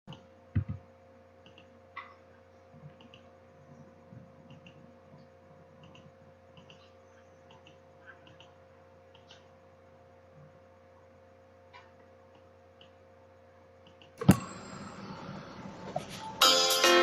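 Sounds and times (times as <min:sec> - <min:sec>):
faint hum: 0:00.1 - 0:17.0.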